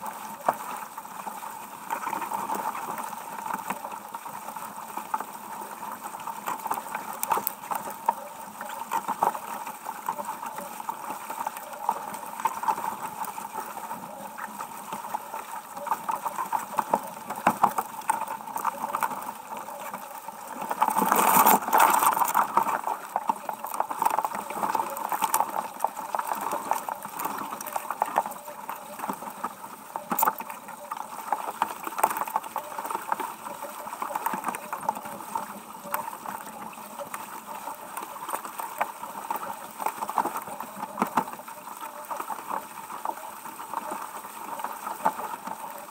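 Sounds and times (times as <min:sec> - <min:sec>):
water rushing along hull: 0:00.0 - 0:45.9.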